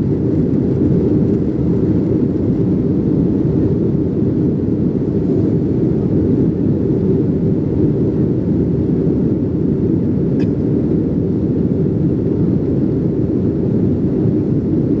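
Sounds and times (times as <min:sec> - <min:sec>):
jet cabin engine and airflow noise: 0:00.0 - 0:15.0.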